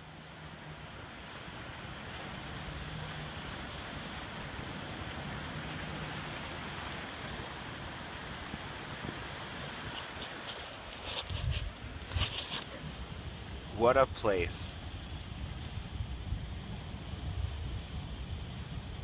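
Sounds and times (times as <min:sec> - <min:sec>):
wind on microphone: 0:01.5 - 0:19.0.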